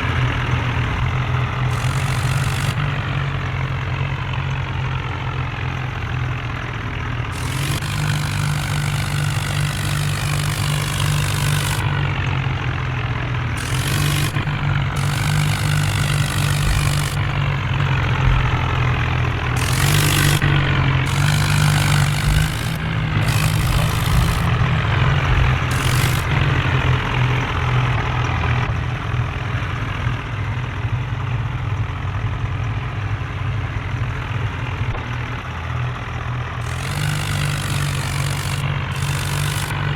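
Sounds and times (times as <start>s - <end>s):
tractor engines humming: 0.0s - 39.9s.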